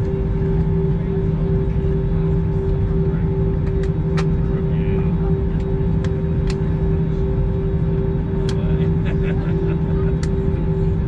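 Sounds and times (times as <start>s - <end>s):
aircraft cabin rumble and hum: 0.0s - 11.0s.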